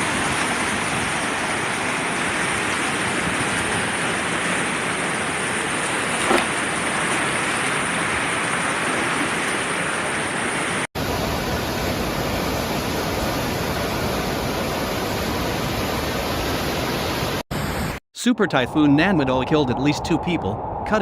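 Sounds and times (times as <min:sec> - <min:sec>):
rushing wind and water: 0:00.0 - 0:18.0.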